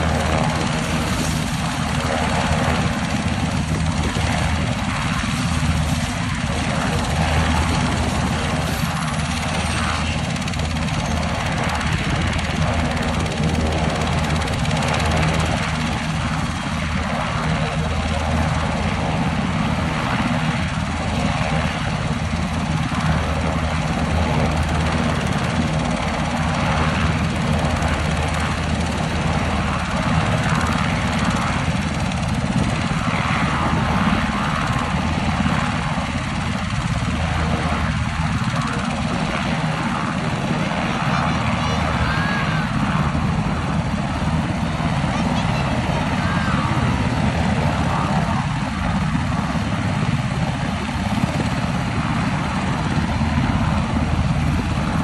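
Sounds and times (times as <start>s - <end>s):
helicopter turbine and rotor drone: 0.0s - 55.0s.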